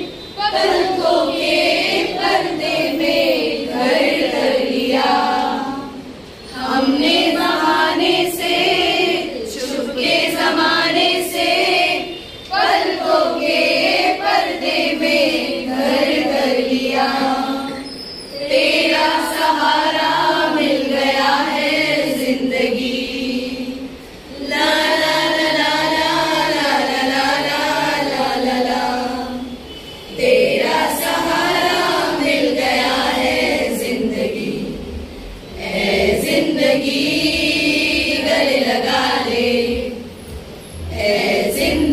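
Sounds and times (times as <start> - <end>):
women singing in chorus: 0.0 - 41.9.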